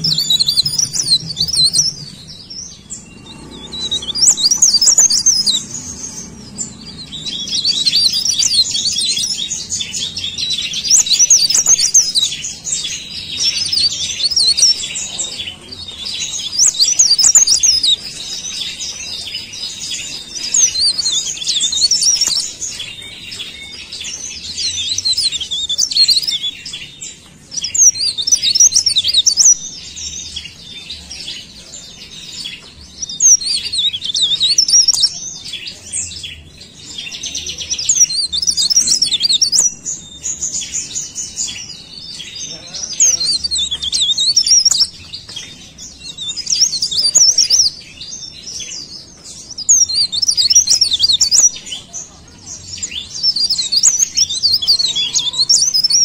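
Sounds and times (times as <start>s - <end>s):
warbler twittering: 0.0s - 56.0s.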